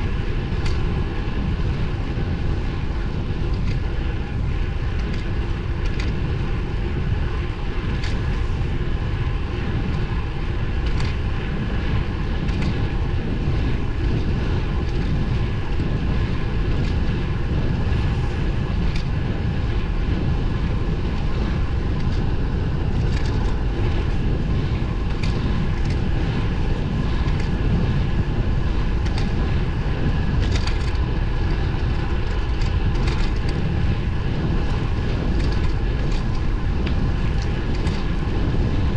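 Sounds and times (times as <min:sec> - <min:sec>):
bicycle tyre noise: 0:00.0 - 0:38.9
bike clicks and rattles: 0:00.0 - 0:38.9
faint steady whine: 0:00.0 - 0:38.9
wind on microphone: 0:00.0 - 0:38.9.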